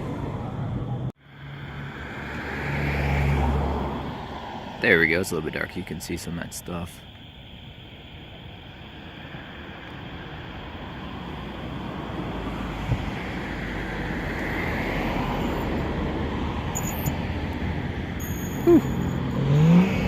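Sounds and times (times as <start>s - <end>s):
car approaching: 0.0s - 20.0s.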